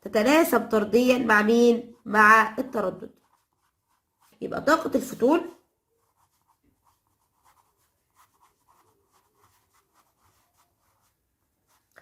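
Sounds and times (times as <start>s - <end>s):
pen scratching while writing: 1.7s - 11.9s.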